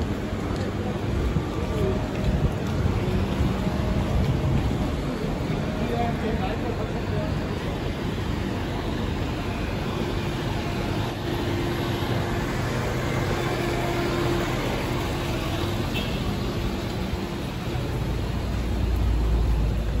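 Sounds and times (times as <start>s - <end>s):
street traffic: 0.0s - 20.0s
truck engine idling: 1.8s - 20.0s.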